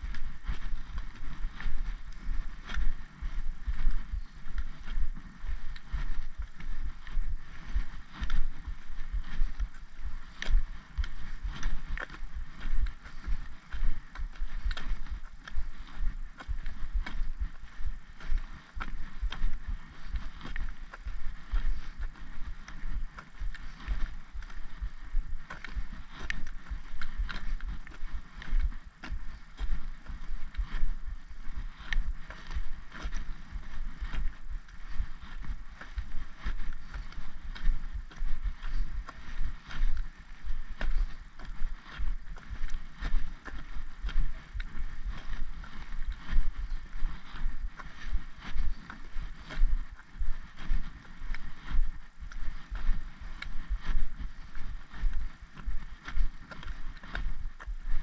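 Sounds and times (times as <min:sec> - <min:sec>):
walking sticks tapping tarmac: 0:00.0 - 0:58.0.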